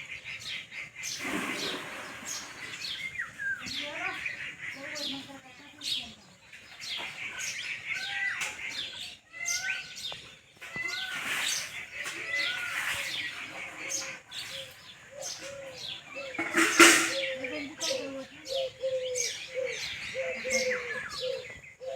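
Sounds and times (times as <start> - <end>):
parrots chirping and chattering: 2.3 - 21.9.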